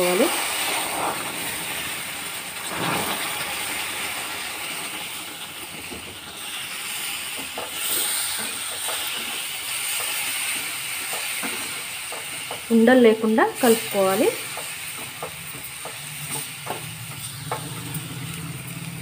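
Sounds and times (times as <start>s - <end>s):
water sizzling in a hot pan: 0.0s - 19.0s.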